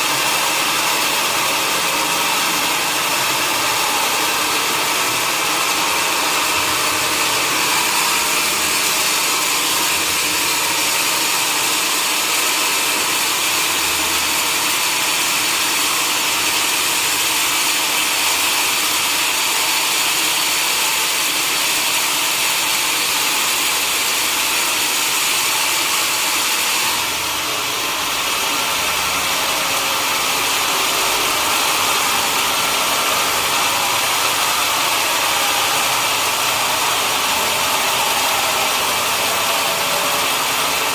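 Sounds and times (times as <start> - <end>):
sawmill saw and engine running: 0.0 - 40.9.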